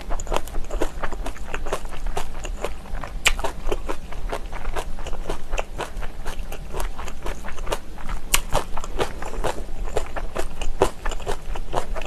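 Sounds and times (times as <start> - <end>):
wet crisp chewing: 0.0 - 12.0.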